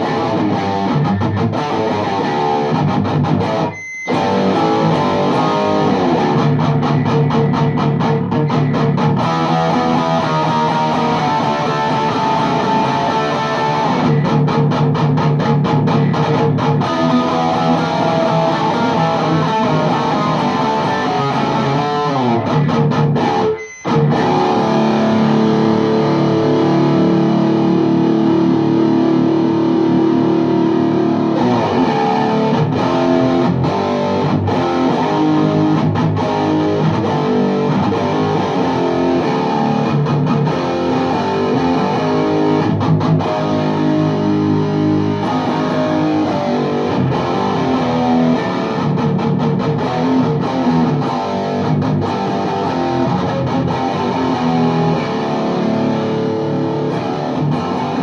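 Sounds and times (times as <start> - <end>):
distorted electric guitar riffing: 0.0 - 58.0.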